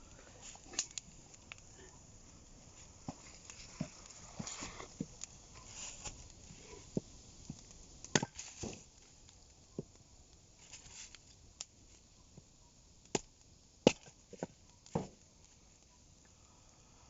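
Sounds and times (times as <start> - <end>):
dry sticks cracking in campfire: 0.0 - 16.9.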